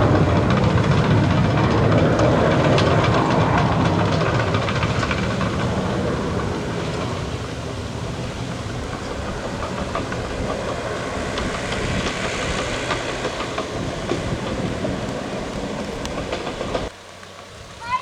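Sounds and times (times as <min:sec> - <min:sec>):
jet engine rush: 0:00.0 - 0:17.0.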